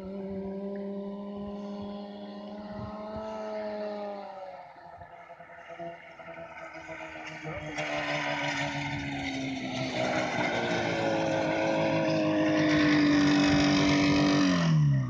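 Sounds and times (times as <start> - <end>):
go-kart engine passing: 0.0 - 15.0.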